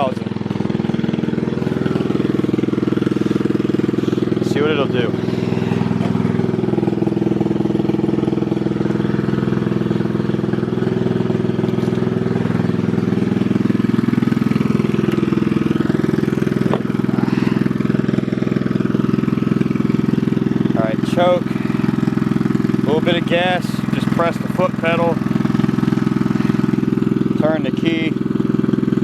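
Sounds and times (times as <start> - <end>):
riding lawn mower engine running: 0.0 - 29.0.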